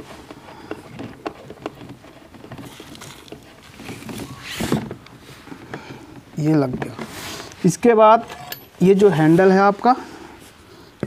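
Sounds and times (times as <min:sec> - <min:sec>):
rustling scrape: 0:00.0 - 0:10.6.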